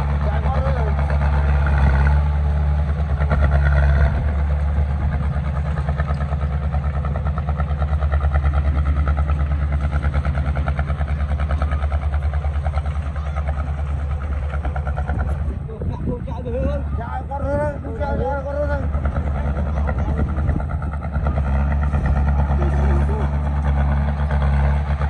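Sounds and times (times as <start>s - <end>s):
diesel engine pulsing: 0.0s - 25.0s.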